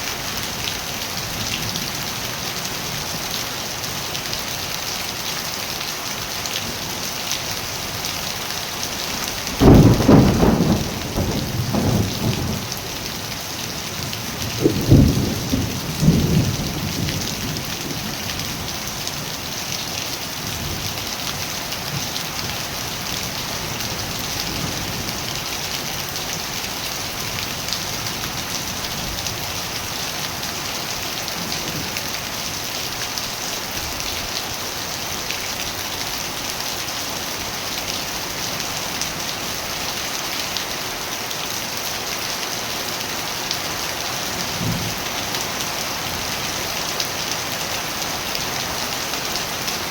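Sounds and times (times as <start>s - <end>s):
rain pattering on surfaces: 0.0s - 49.9s.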